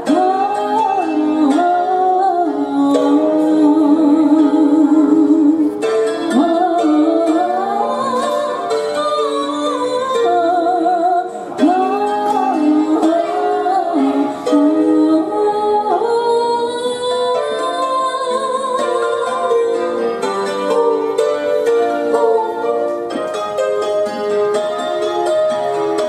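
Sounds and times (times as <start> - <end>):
woman singing with vibrato: 0.0 - 23.2
plucked strings: 0.0 - 26.0.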